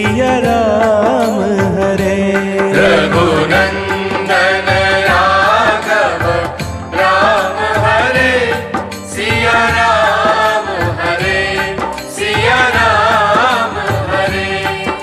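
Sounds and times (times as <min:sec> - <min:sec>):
instrumental accompaniment: 0:00.0 - 0:15.0
person singing devotional song: 0:00.0 - 0:15.0.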